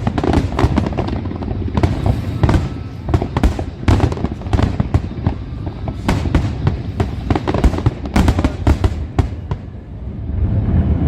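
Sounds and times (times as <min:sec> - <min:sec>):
fireworks bursts and bangs: 0:00.0 - 0:10.4
low rumble: 0:00.8 - 0:11.0.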